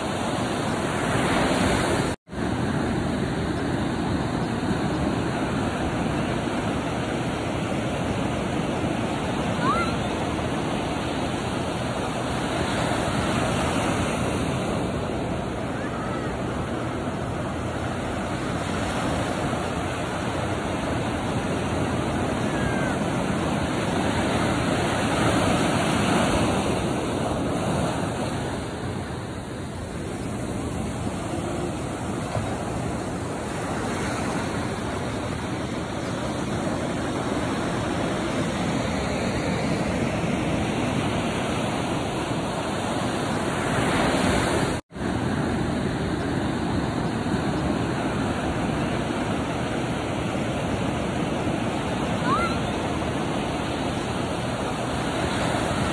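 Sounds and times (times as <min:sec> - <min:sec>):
ocean surf breaking on beach: 0:00.0 - 0:55.9.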